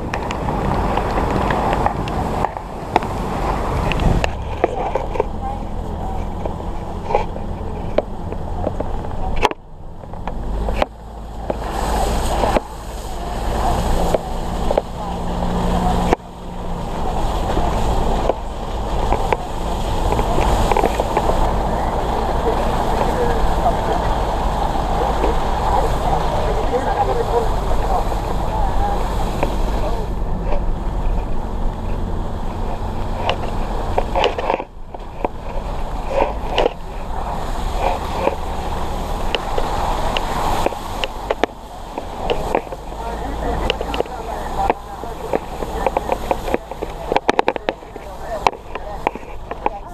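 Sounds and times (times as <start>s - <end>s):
knocks and crackles: 0.0s - 49.9s
vehicle rumble in cab: 0.0s - 49.9s.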